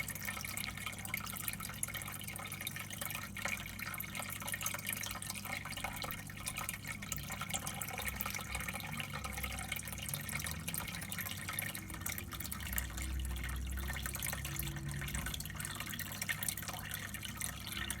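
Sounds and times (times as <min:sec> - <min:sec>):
water dripping and trickling: 0:00.0 - 0:18.0.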